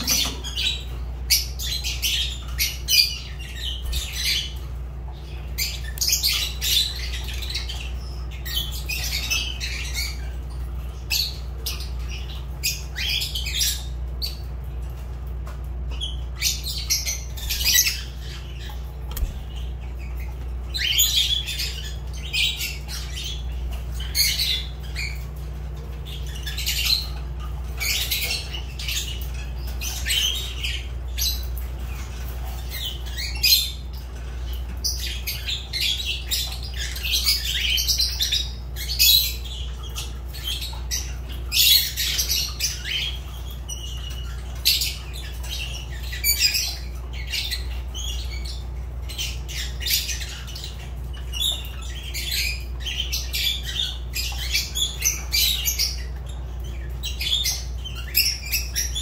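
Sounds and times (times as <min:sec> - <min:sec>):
lovebirds chirping: 0:00.0 - 0:59.0
steady low hum: 0:00.0 - 0:59.0.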